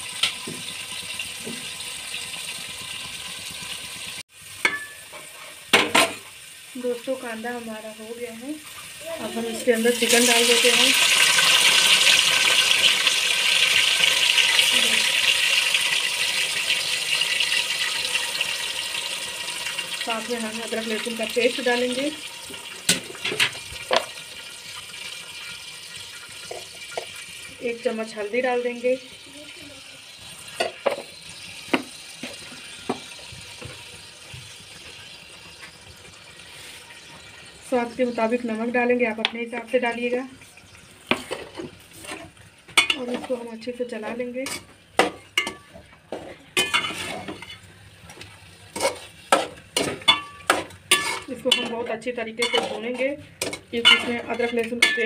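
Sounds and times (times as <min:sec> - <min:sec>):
chicken sizzling in hot oil: 0:00.0 - 0:45.9, 0:46.6 - 0:55.0.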